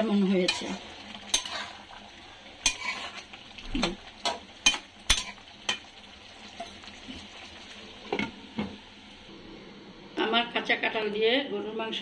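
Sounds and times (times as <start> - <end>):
faint simmering sizzle: 0.0 - 12.0.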